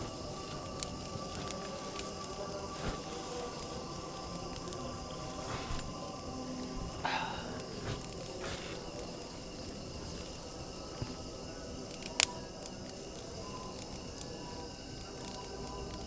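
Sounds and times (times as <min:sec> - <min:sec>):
campfire wood popping: 0:00.0 - 0:06.3, 0:07.1 - 0:14.3
high insect tones: 0:00.0 - 0:16.0.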